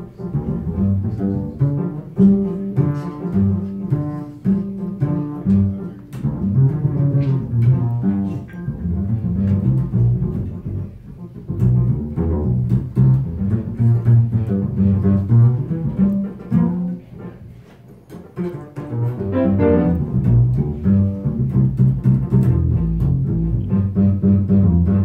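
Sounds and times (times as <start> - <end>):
upright bass plucking: 0.0 - 17.4, 18.1 - 25.0
live jazz: 0.0 - 25.0.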